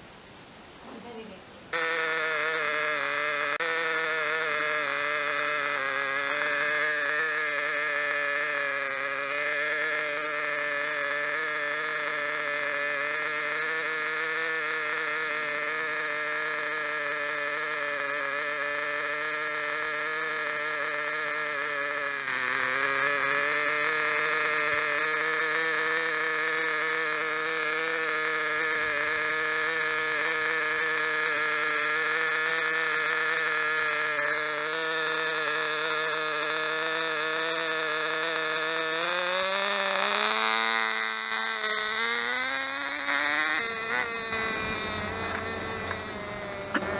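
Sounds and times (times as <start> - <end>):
small nitro engine running: 1.7 - 46.9.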